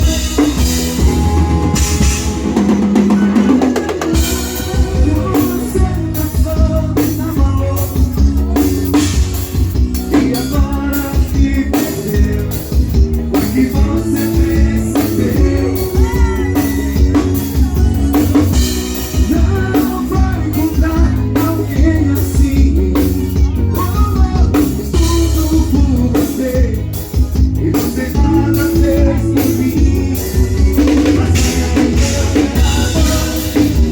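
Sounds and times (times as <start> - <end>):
live band playing: 0.0 - 33.9
person singing: 0.0 - 33.9.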